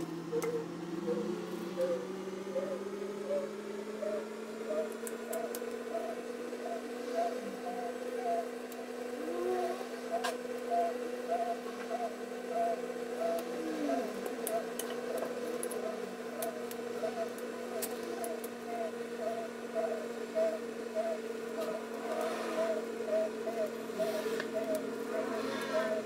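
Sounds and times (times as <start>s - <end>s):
low warbling hum: 0.0s - 26.0s.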